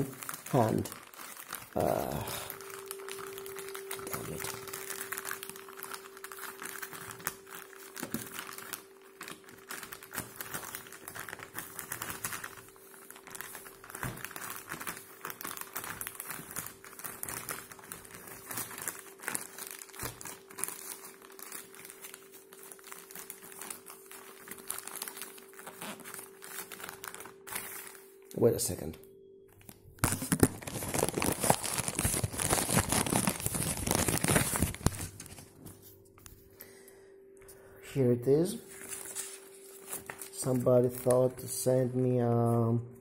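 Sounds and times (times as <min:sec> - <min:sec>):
plastic bag crinkling: 0:00.0 - 0:28.8, 0:29.5 - 0:36.7, 0:38.4 - 0:41.6
faint steady hum: 0:00.0 - 0:43.0.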